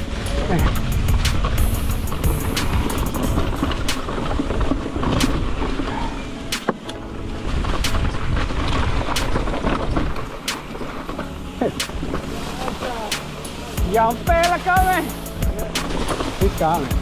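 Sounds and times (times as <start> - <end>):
bike tyres rumbling: 0.0 - 17.0
wind: 0.0 - 17.0.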